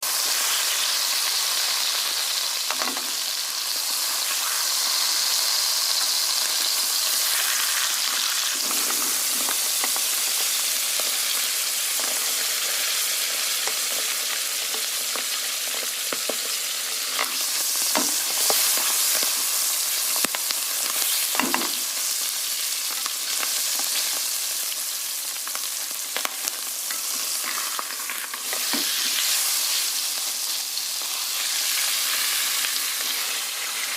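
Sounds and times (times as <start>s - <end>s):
food sizzling in hot oil: 0.0s - 33.9s.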